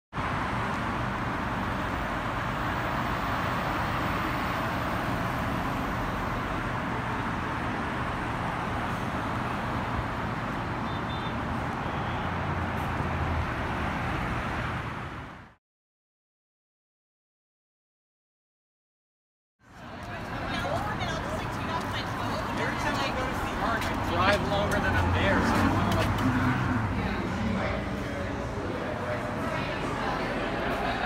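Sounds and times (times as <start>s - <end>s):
road traffic: 0.1s - 15.6s, 19.6s - 31.0s.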